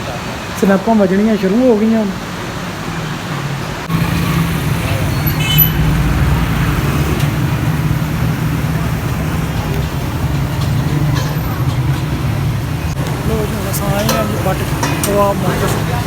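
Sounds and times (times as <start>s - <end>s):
road traffic and engine noise: 0.0s - 16.0s.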